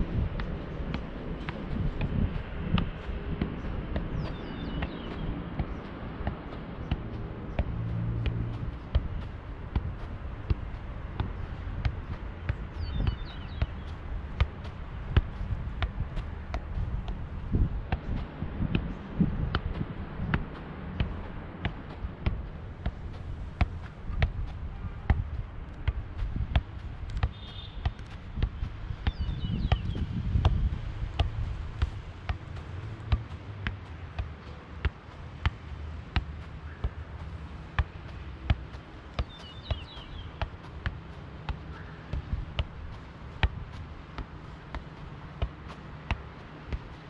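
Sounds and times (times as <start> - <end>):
foot thudding on football: 0.2 - 47.0.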